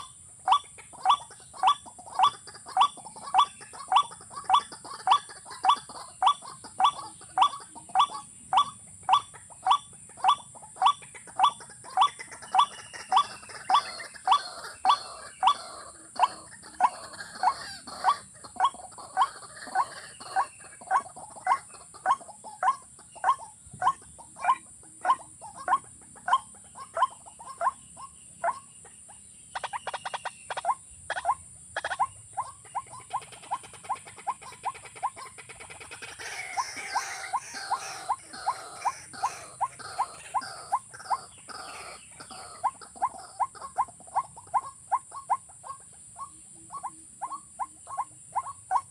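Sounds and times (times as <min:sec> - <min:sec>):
watercock calling: 0:00.0 - 0:48.9.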